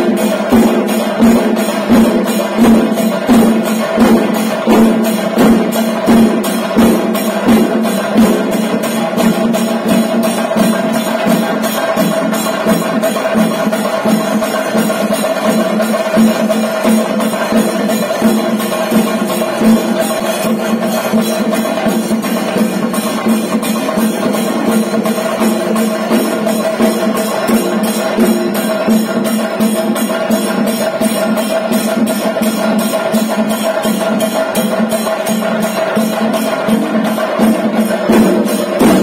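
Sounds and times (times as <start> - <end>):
cymbals clashing: 0.0 - 39.0
drum strokes: 0.0 - 39.0.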